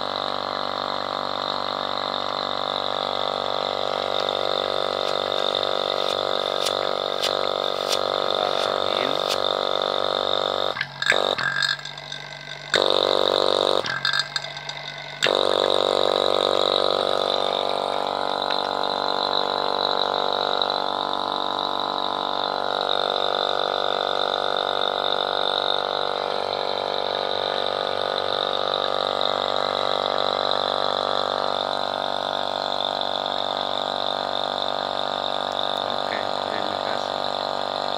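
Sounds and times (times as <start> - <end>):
vacuum pump humming with whine: 0.0 - 37.9.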